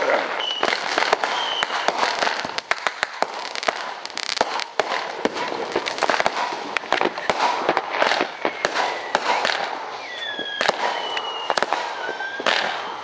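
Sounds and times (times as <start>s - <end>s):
crackling hiss of fireworks: 0.0s - 13.0s
firework bangs and cracks: 0.0s - 13.0s
high firework whistle: 0.4s - 13.0s.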